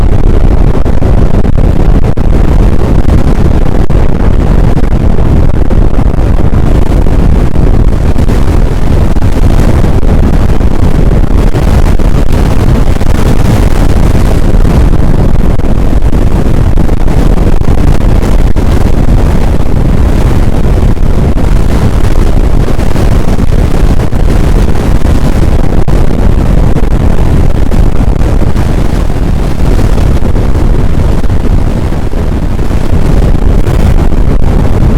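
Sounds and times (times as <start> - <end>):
strong wind on microphone: 0.0 - 34.9.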